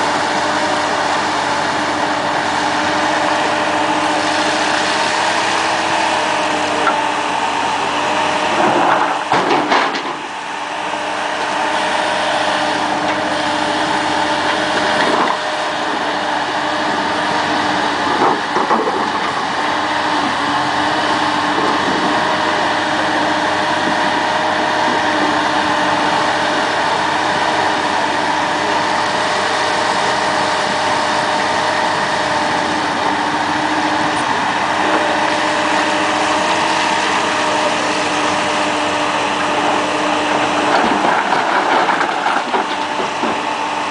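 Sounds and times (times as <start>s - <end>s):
excavator engine and hydraulics: 0.0s - 43.9s.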